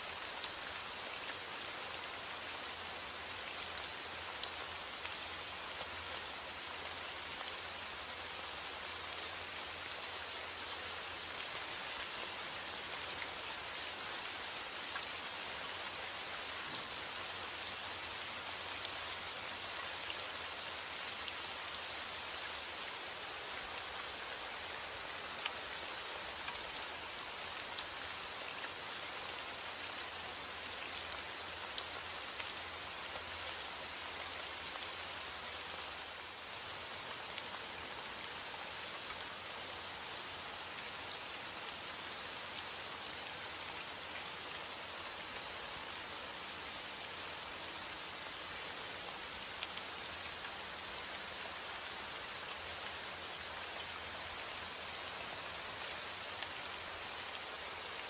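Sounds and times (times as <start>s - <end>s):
heavy rain on hard surfaces: 0.0s - 58.0s.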